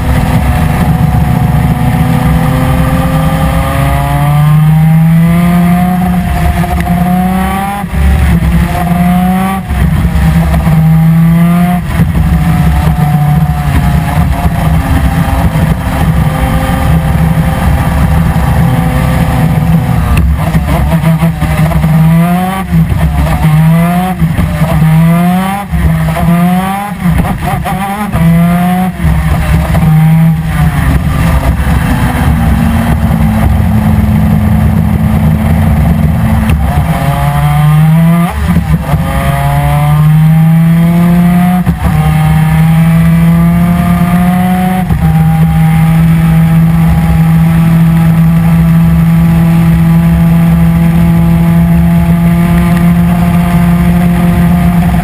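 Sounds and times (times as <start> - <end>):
kart engine revving through gears: 0.0 - 55.0.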